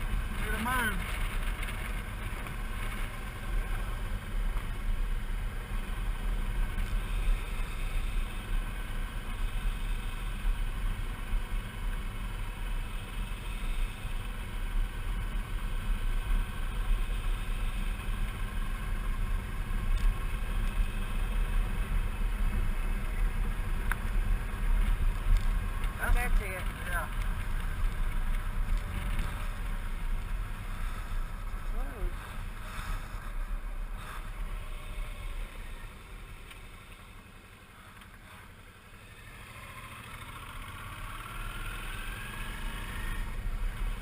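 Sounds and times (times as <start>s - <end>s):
motorcycle engine cruising: 0.0s - 44.0s
road and wind rush: 0.0s - 44.0s.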